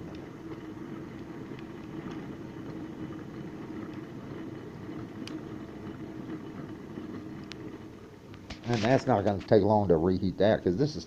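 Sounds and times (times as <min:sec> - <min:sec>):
steady low hum: 0:00.0 - 0:11.0
wood fire crackling: 0:00.0 - 0:11.0.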